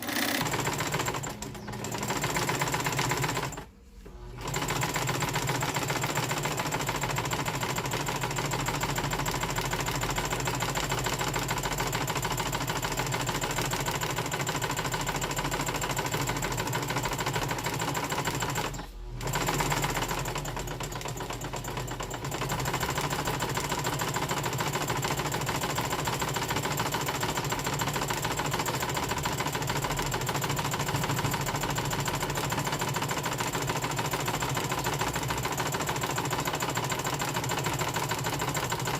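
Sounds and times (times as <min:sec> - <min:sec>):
sewing machine running: 0:00.0 - 0:38.9.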